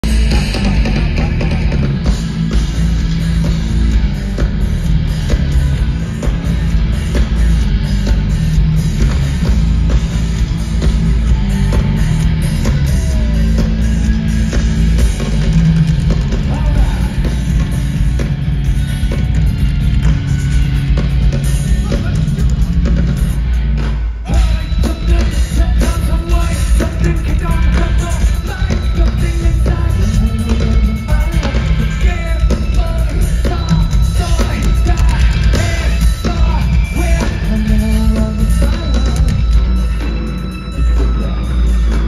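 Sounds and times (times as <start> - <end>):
live metal band playing: 0.0 - 42.0.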